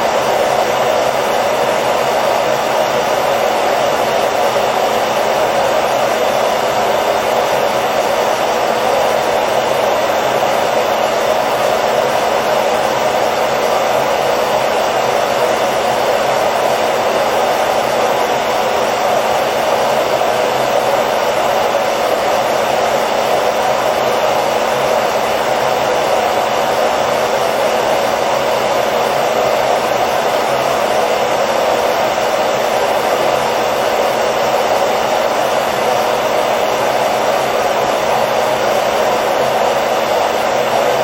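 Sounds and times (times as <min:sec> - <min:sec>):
hair dryer running: 0:00.0 - 0:41.0.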